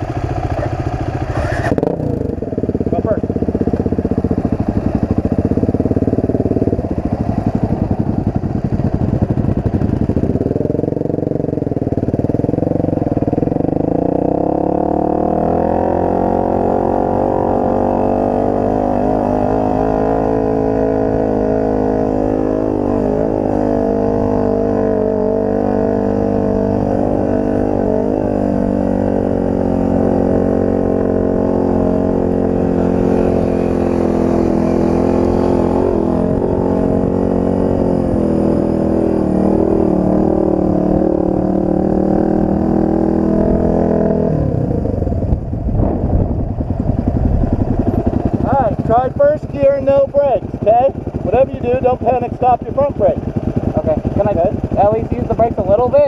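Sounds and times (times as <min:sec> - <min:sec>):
motorcycle engine chugging and revving: 0:00.0 - 0:56.0.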